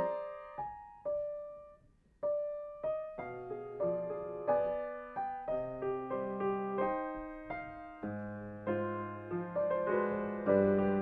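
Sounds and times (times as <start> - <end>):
slow classical piano piece: 0.0 - 11.0.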